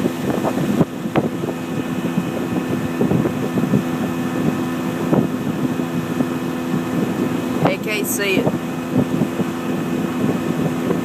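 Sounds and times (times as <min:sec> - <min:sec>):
boat motor humming: 0:00.0 - 0:11.0
wind buffeting microphone: 0:00.0 - 0:11.0.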